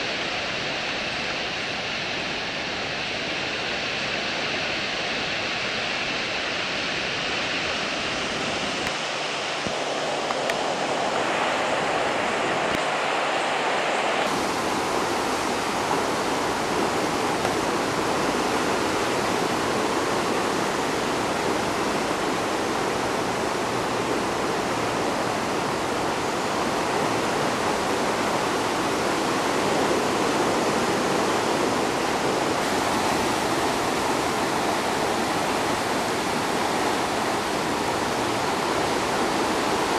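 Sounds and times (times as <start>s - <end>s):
floodwater rushing in a river: 0.0s - 39.9s.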